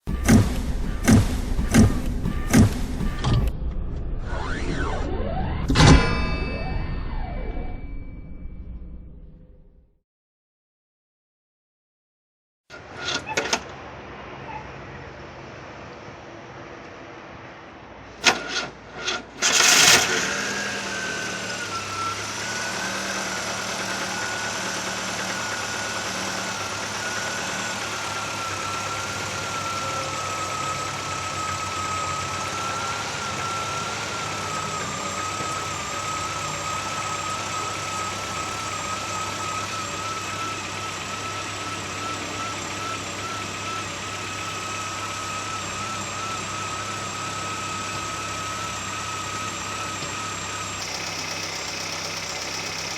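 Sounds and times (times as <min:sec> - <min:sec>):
car engine starting and idling: 0:00.0 - 0:09.9, 0:18.1 - 0:52.9
thin wavering engine whine: 0:00.0 - 0:09.9, 0:19.4 - 0:52.9.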